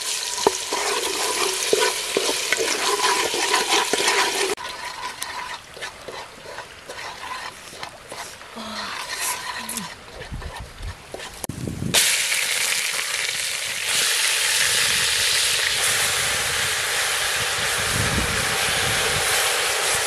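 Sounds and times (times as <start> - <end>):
mushrooms sizzling in hot pot: 0.0 - 9.9, 11.2 - 20.0.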